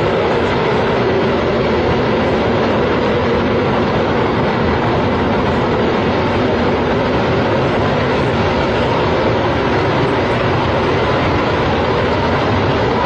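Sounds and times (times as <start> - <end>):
loud engine noise: 0.0 - 13.0.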